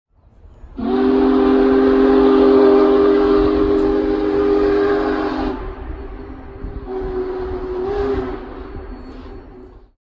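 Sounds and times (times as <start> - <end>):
steam locomotive whistle chord: 0.7 - 10.0.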